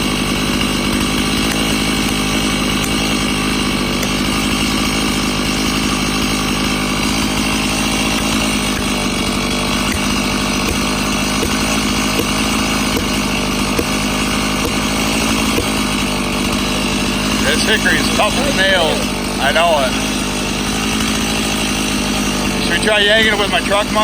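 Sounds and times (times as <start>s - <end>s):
chainsaw running: 0.0s - 24.0s.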